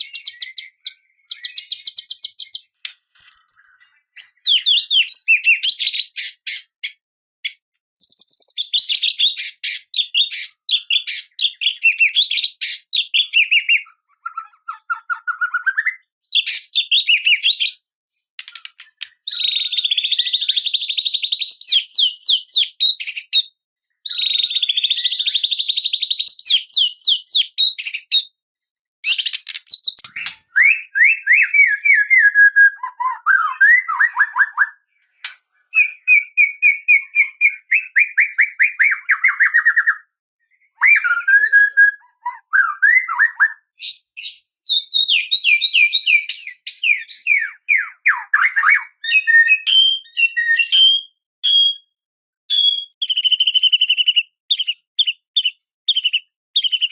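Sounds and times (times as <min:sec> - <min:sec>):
songbird singing trills: 0:00.0 - 0:28.4, 0:29.0 - 0:56.9.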